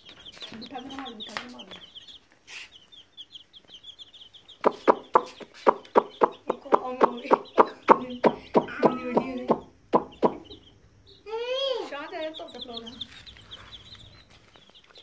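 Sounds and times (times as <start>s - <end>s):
hen clucking: 0.0s - 11.3s, 11.9s - 15.0s
chicks peeping: 0.0s - 15.0s.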